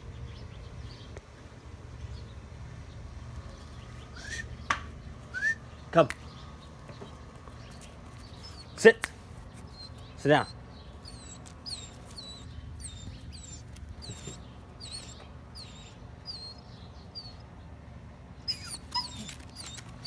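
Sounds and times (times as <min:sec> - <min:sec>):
steady low hum: 0:00.0 - 0:20.0
bird chirping: 0:02.0 - 0:17.6, 0:18.4 - 0:20.0.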